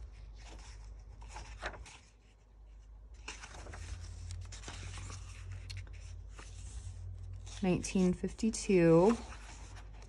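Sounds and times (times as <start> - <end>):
book pages turning: 0.0 - 10.0.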